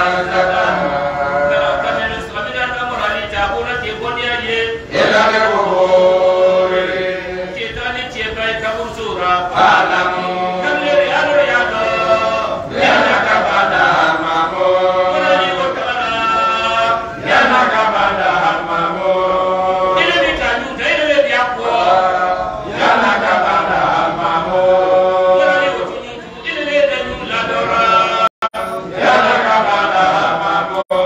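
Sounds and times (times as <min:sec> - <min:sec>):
men chanting together: 0:00.0 - 0:31.0.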